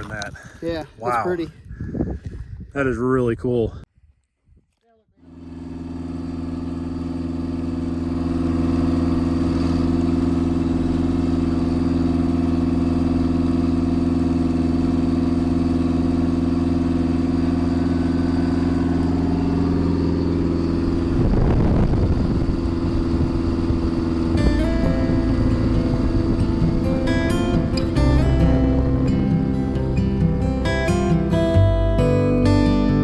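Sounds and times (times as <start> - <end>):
light aircraft engine drone: 5.2 - 31.7.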